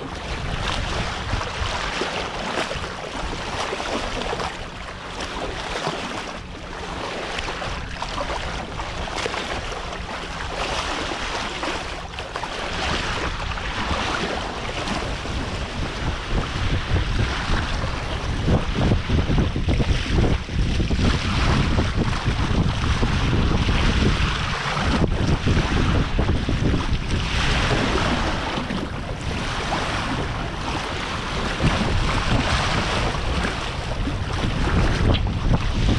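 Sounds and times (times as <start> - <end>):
water splashing along boat hull: 0.0 - 35.9
wind buffeting microphone: 0.0 - 35.9.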